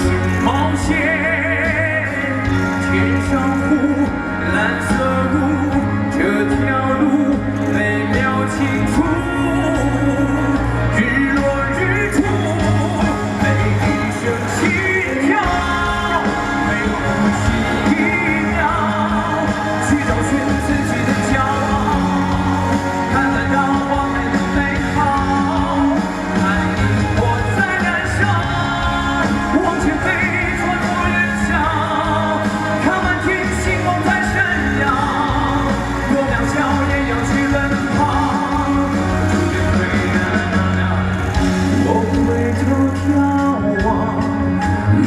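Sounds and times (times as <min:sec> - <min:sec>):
band playing: 0:00.0 - 0:45.0
man singing with vibrato: 0:00.0 - 0:45.0.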